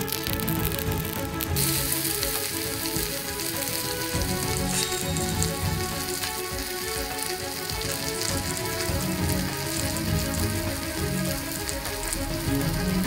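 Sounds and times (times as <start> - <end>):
faint background music: 0.0 - 13.0
meat sizzling on a griddle: 0.0 - 13.0.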